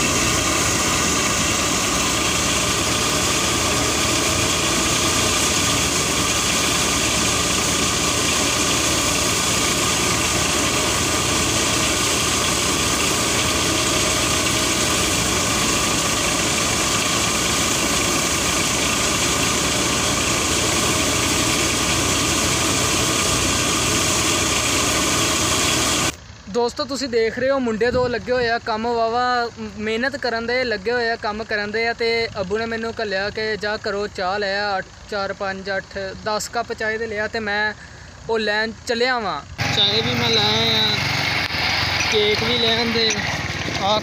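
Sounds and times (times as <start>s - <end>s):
tractor-driven thresher running: 0.0s - 44.0s.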